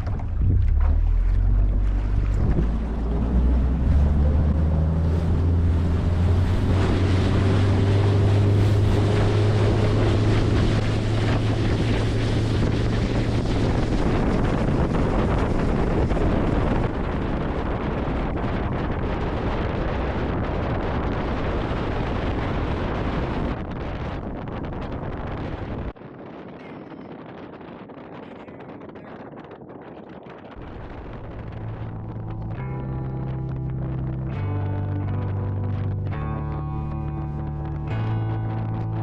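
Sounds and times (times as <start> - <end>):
outboard motor at full throttle: 0.0 - 25.9, 30.4 - 39.0
wind on microphone: 0.0 - 39.0.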